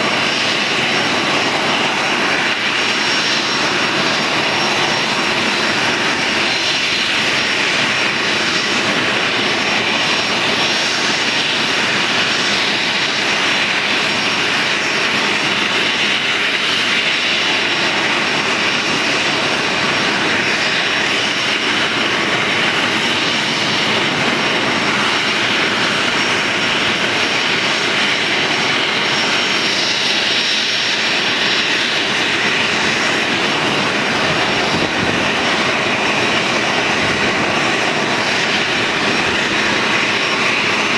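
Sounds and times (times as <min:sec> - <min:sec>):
jet engines idling: 0:00.0 - 0:40.9.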